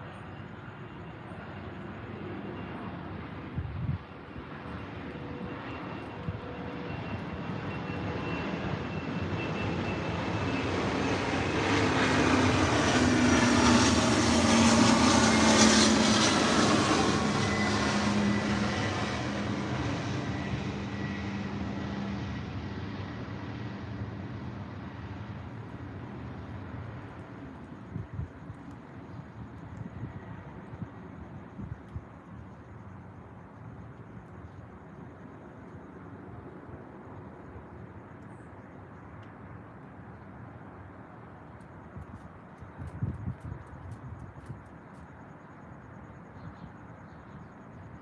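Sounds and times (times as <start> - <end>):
aircraft engine drone overhead: 0.0 - 48.0.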